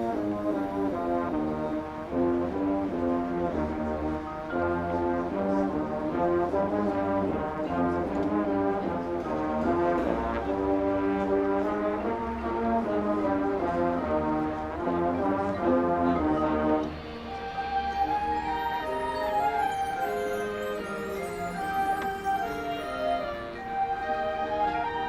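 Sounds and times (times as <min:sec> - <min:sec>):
brass chords: 0:00.0 - 0:25.0
marching band playing: 0:00.0 - 0:25.0.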